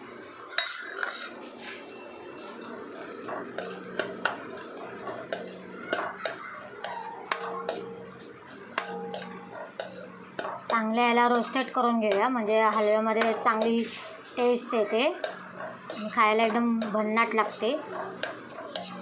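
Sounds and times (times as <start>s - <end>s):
food frying in oil: 0.2s - 19.0s
spoon scraping and clinking pan: 0.5s - 19.0s.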